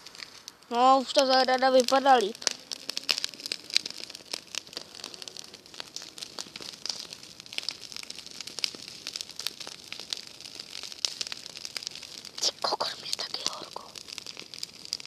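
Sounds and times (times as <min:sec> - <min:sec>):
burning grass crackling: 0:00.0 - 0:15.0
fire hissing: 0:00.0 - 0:15.0
fire popping: 0:00.0 - 0:15.0.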